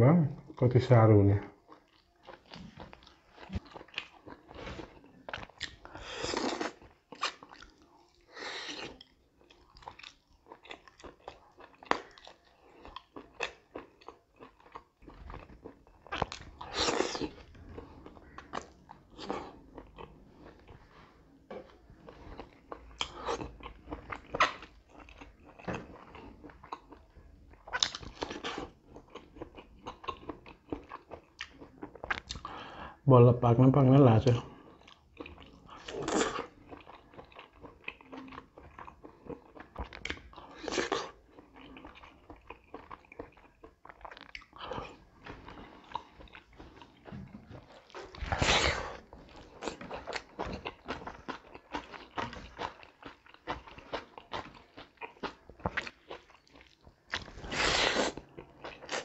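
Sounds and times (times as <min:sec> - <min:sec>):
close chewing with wet lip smacks: 0:01.6 - 0:20.9, 0:22.0 - 0:32.5, 0:34.8 - 0:59.0.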